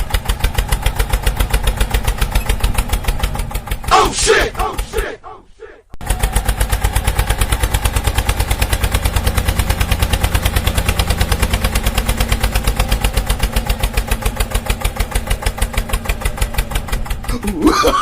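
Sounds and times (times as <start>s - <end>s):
small engine puttering: 0.0s - 4.9s, 6.0s - 18.0s.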